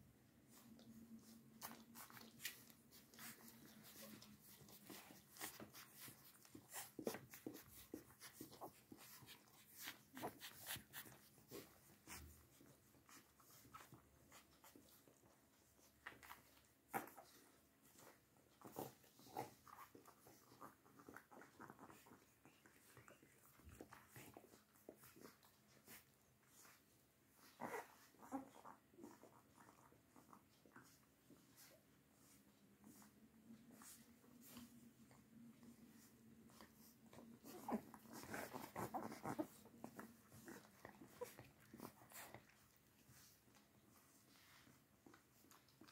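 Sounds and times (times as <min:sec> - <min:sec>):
puppies sucking and smacking: 0:00.0 - 0:45.9.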